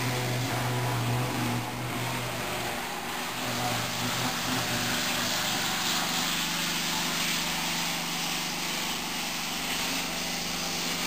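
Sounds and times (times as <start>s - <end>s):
constant hiss: 0.0s - 11.0s
machine humming: 0.0s - 11.0s.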